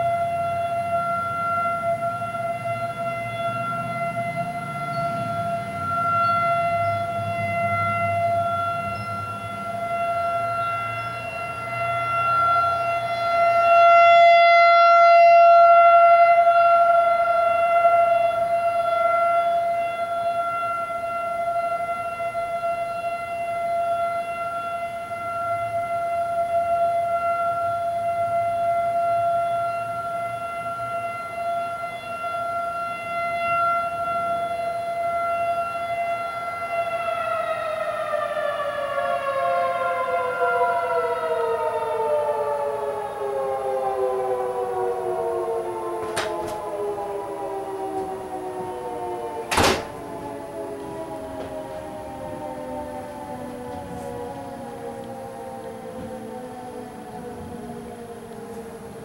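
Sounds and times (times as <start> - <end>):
rotating warning siren: 0.0 - 59.0.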